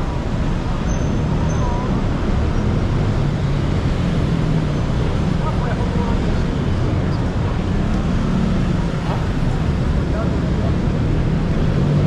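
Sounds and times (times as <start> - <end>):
continuous rushing noise: 0.0 - 12.0.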